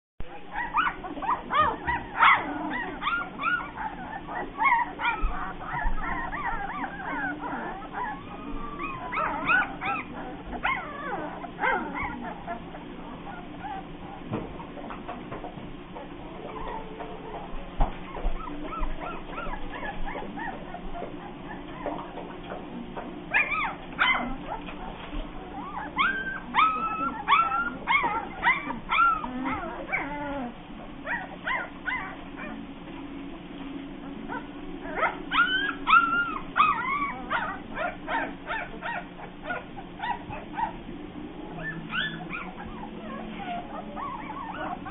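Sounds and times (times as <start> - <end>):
puppies whining: 0.2 - 44.9
puppy yelp: 0.3 - 14.7, 16.0 - 22.1, 23.3 - 24.8, 25.5 - 32.6, 34.3 - 40.8, 41.6 - 44.9.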